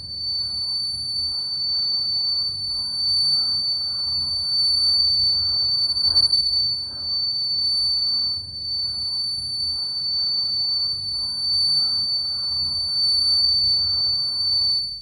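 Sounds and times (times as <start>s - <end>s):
high-pitched ringing tone: 0.0s - 15.0s.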